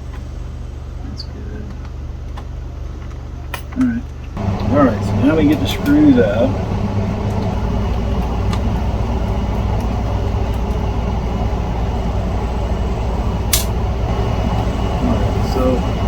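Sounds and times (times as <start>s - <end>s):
low rumble of machinery: 0.0s - 16.0s.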